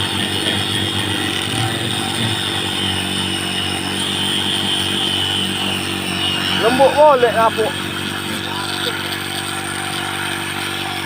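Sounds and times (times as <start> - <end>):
power tool motor whining: 0.0 - 11.0.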